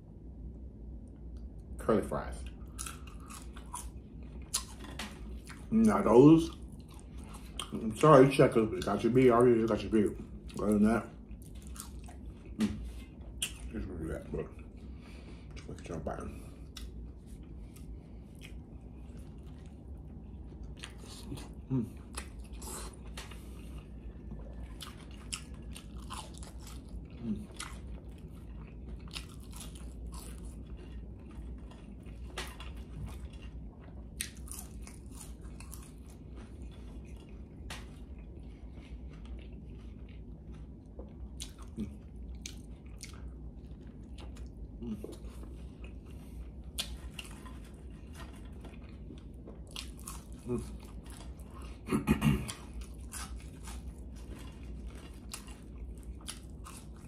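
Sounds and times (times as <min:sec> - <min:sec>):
low steady hum: 0:00.0 - 0:57.0
person chewing crunchy food: 0:01.2 - 0:57.0.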